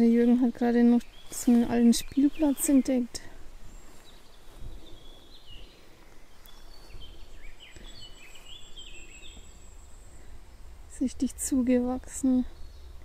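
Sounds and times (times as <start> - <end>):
low background rumble: 0.0 - 13.0
songbirds chirping: 0.0 - 13.0.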